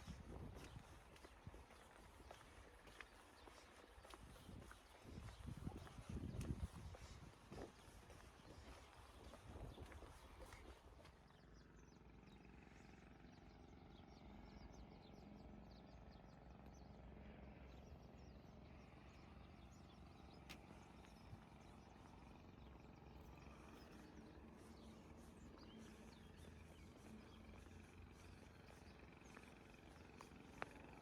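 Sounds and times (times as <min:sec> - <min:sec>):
low background hum: 0:00.0 - 0:31.0
small birds chirping: 0:00.0 - 0:31.0.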